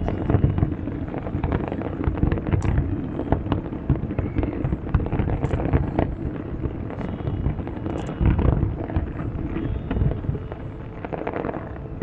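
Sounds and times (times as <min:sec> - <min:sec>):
fireworks bangs and booms: 0:00.0 - 0:12.0
sharp firework cracks: 0:00.0 - 0:12.0.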